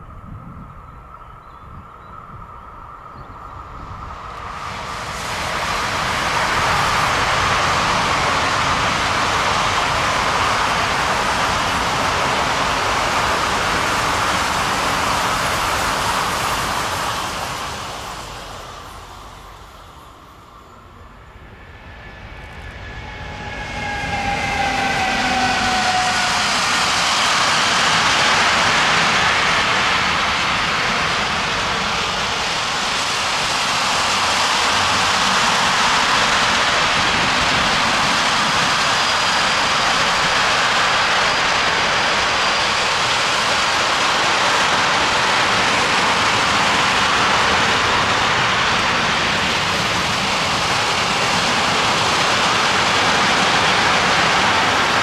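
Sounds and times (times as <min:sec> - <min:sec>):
electric locomotive whine: 0:00.0 - 0:55.0
train wheels rolling on rails: 0:03.3 - 0:55.0.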